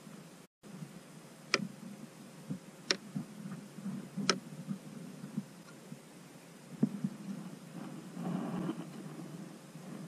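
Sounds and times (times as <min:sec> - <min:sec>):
low muffled rumble: 0:00.7 - 0:06.1, 0:06.7 - 0:10.0.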